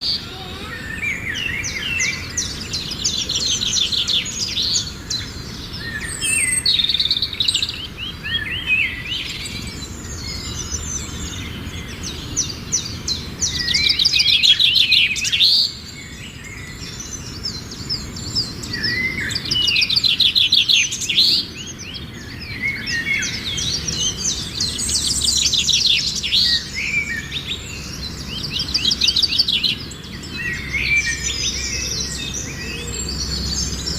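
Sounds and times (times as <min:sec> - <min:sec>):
faint outdoor background: 0:00.0 - 0:33.9
songbirds singing: 0:00.0 - 0:33.9.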